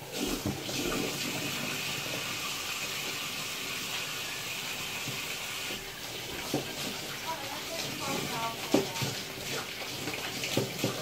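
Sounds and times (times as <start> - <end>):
water running from tap: 0.0 - 11.0.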